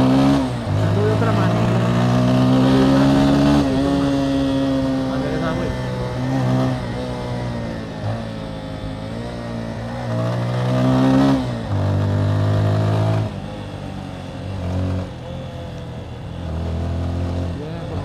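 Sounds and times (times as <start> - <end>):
motorcycle engine shifting gears: 0.0 - 18.0.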